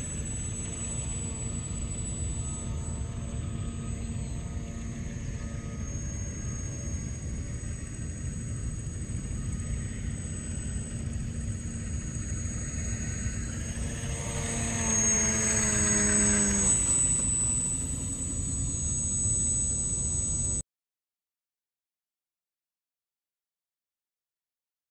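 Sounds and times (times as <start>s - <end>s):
model aircraft high whine: 0.0s - 20.6s.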